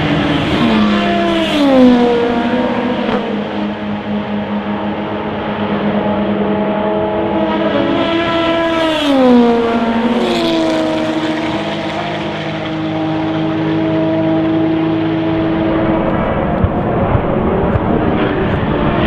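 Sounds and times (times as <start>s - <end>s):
cars running: 0.0s - 19.0s
racing car engines passing at speed: 0.0s - 19.0s.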